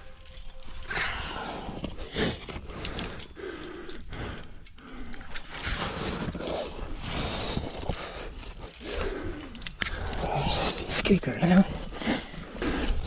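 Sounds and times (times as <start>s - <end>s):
person breathing hard: 0.8s - 11.1s, 11.7s - 13.0s.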